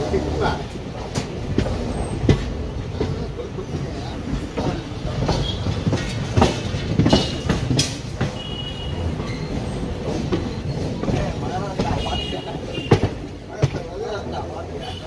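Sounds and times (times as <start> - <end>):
train low rumble: 0.0 - 15.0
wheels knocking over rail joints: 0.0 - 15.0.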